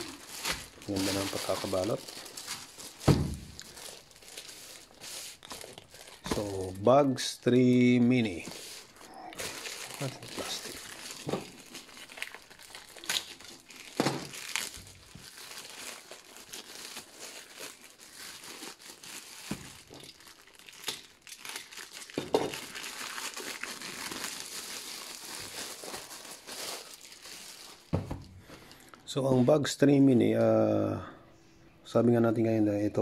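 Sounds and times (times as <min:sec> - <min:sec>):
plastic packaging crinkling: 0:00.0 - 0:28.9.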